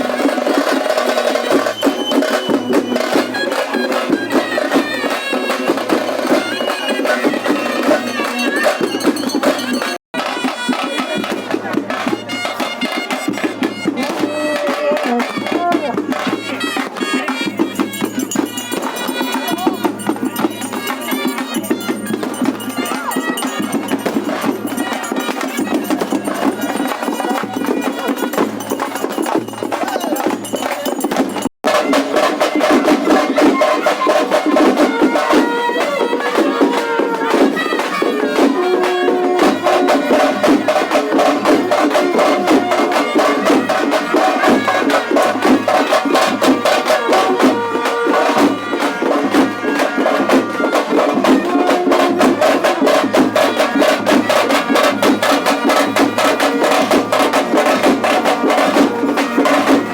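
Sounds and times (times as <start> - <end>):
fast drumming: 0.0 - 59.9
piping melody instrument: 0.0 - 59.9.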